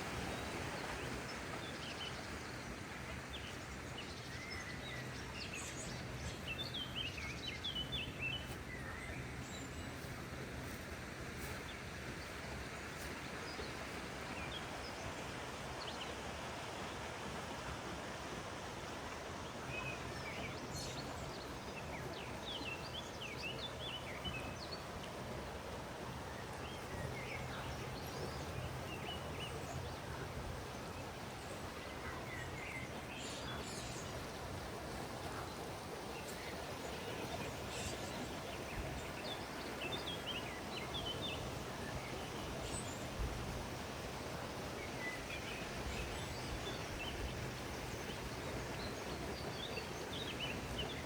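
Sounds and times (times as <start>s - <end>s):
small birds chirping: 0.0s - 15.0s, 19.4s - 51.0s.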